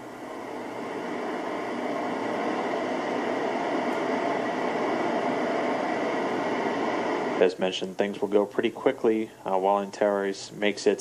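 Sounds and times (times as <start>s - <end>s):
steady rushing hiss: 0.0s - 11.0s.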